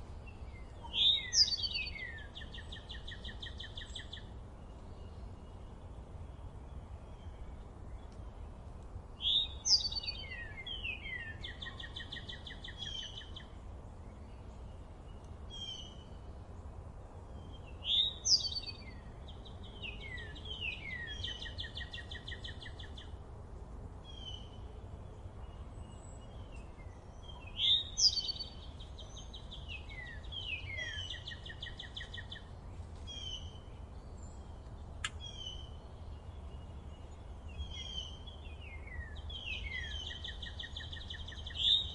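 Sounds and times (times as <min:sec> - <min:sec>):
bird song with buzzy trills: 0:00.0 - 0:23.2, 0:24.0 - 0:41.9
quiet bird chirps: 0:00.0 - 0:23.2, 0:24.0 - 0:41.9.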